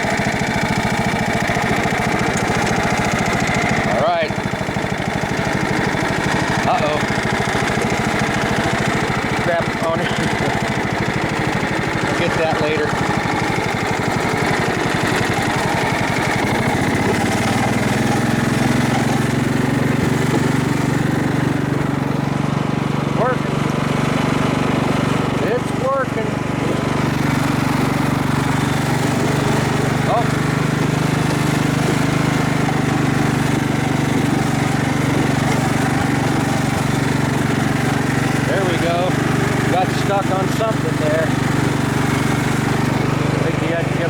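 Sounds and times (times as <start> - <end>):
lawnmower engine under load: 0.0 - 44.0.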